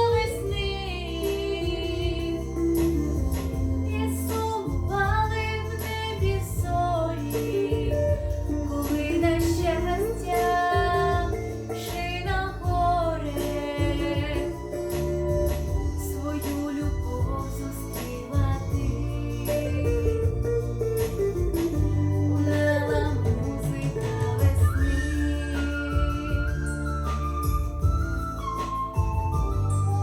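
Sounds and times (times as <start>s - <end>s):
girl singing pop song: 0.0s - 28.2s
instrumental accompaniment with bass: 0.0s - 30.0s.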